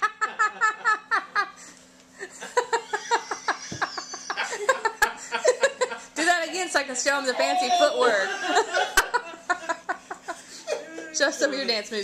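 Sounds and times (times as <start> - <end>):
people laughing hard: 0.0 - 6.4, 7.1 - 12.0.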